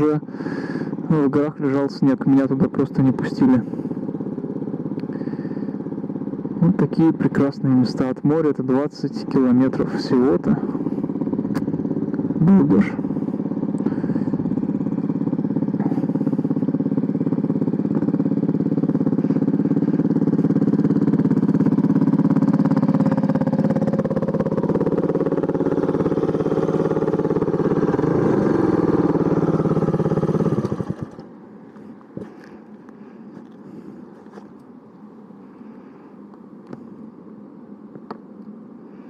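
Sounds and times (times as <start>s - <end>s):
motorcycle engine running: 0.0s - 34.6s.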